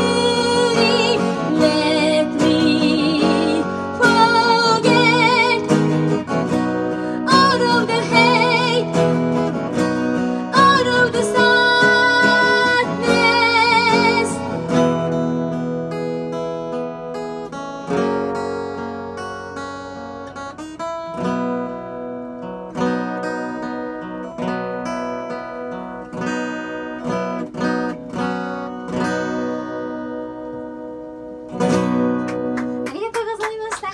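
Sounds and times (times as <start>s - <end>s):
acoustic guitar playing slow chords: 0.0s - 33.0s.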